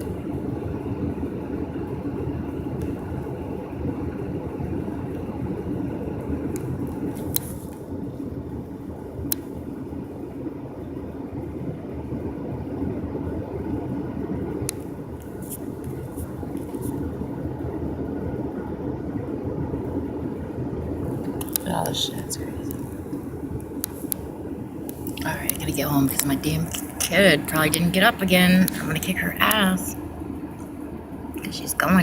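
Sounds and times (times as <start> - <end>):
vehicle rumbling: 0.0 - 32.0.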